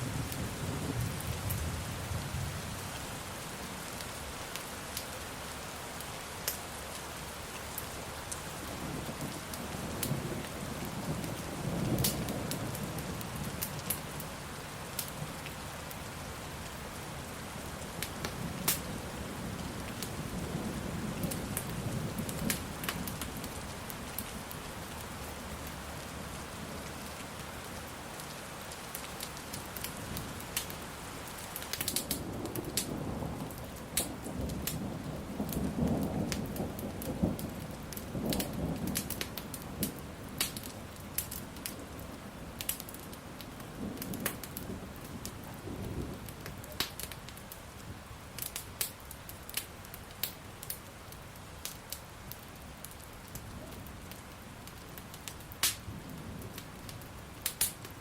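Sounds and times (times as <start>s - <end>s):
steady rain: 0.0s - 58.0s
wood fire crackling: 2.9s - 20.4s, 21.1s - 58.0s.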